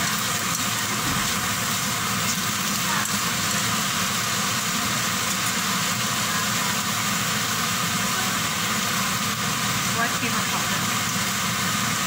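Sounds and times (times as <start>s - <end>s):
stir-fry sizzling in a wok: 0.0s - 12.0s.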